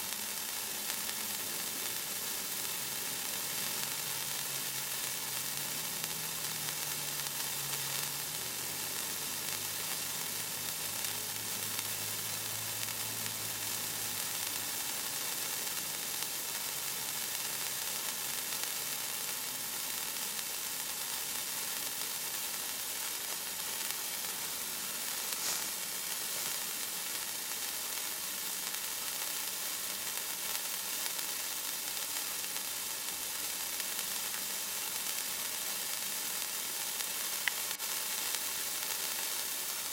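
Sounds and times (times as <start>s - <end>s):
sparkler firework hissing: 0.0s - 39.9s.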